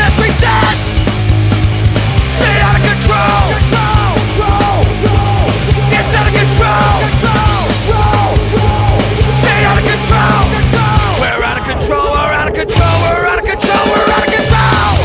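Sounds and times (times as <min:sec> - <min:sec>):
shouted vocals: 0:00.0 - 0:00.9, 0:02.3 - 0:15.0
loud punk rock music: 0:00.0 - 0:15.0.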